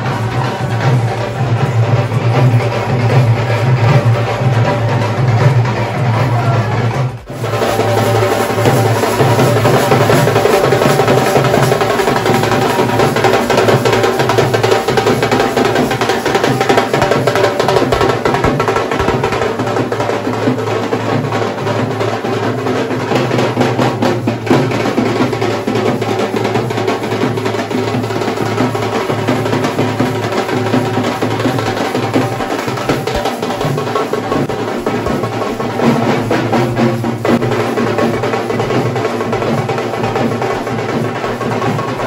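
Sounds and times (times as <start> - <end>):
stick drumming on drums: 0.0 - 42.0.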